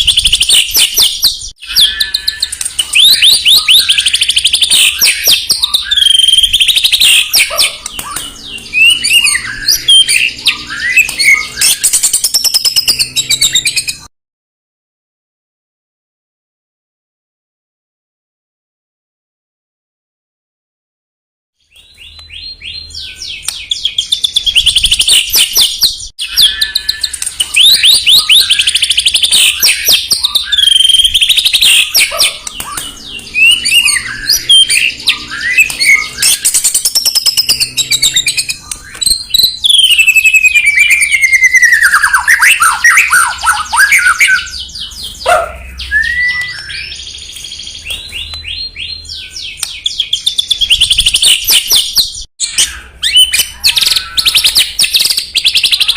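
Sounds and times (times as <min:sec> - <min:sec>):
songbird singing trills and whistles: 0:00.0 - 0:14.1, 0:21.6 - 0:55.9.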